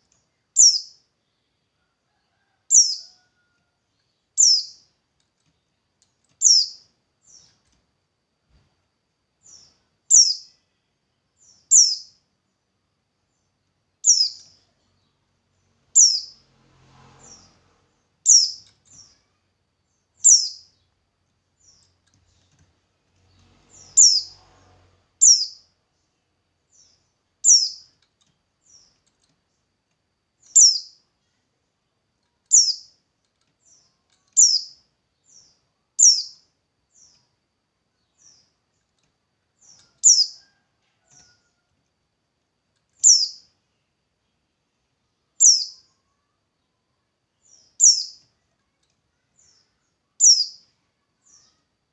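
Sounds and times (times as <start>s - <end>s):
songbird chirping: 0.0s - 51.9s.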